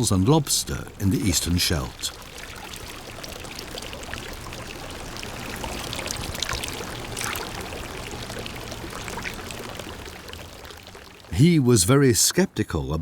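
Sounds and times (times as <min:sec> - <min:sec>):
water pouring and splashing: 0:00.0 - 0:11.4.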